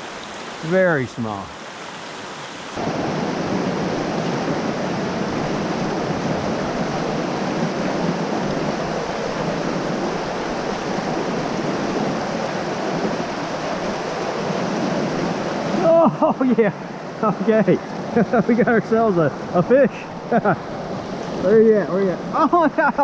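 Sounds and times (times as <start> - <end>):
creek water rushing over rocks: 0.0 - 23.0.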